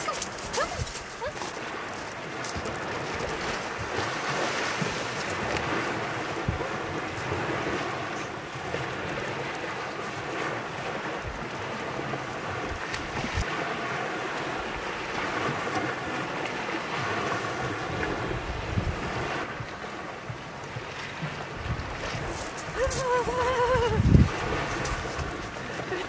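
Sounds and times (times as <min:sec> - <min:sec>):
waves washing onto pebbles: 0:00.0 - 0:26.0
wind buffeting microphone: 0:00.0 - 0:26.0.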